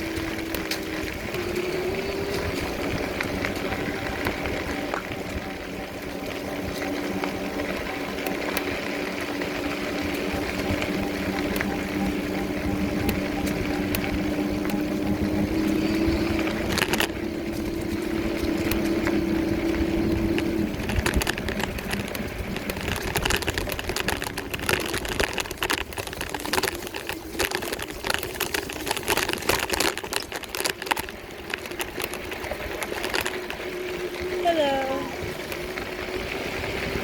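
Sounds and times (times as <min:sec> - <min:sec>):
rattling and clicking: 0:00.0 - 0:34.3
small vehicle motor humming: 0:00.0 - 0:37.0.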